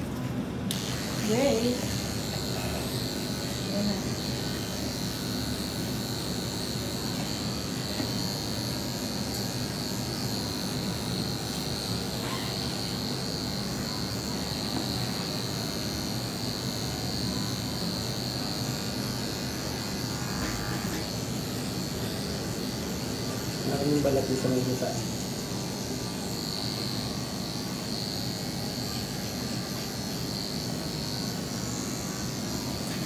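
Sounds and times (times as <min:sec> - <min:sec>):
electric clipper whining: 0:00.6 - 0:33.0.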